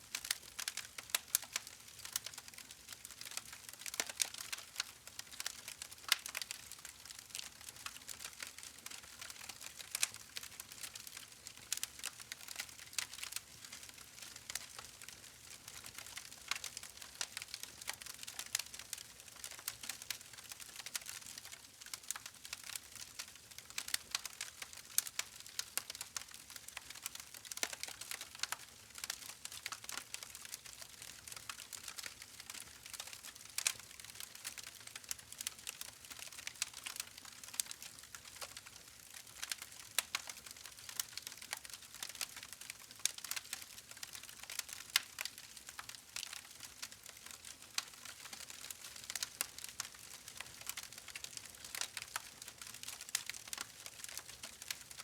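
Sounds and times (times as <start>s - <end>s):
campfire crackling and popping: 0.1s - 54.9s.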